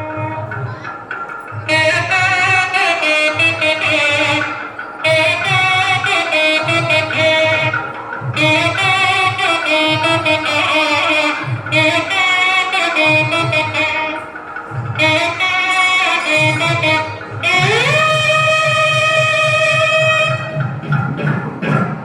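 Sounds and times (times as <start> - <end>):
instrumental accompaniment: 0.0 - 22.0.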